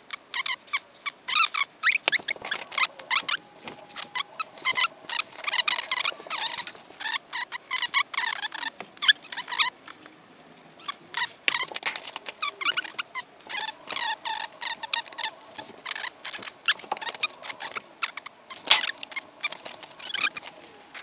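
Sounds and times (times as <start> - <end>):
sped-up squeaky chatter and clatter: 0.4 - 10.2, 10.8 - 21.0.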